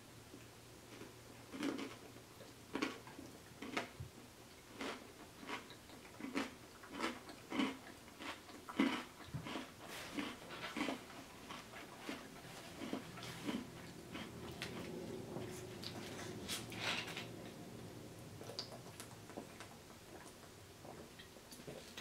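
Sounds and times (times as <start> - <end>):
chewing pasta salad: 0.3 - 22.0.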